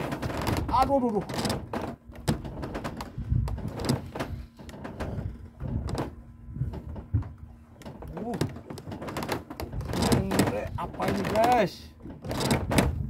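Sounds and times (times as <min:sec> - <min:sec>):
low thumps: 0:00.0 - 0:13.0.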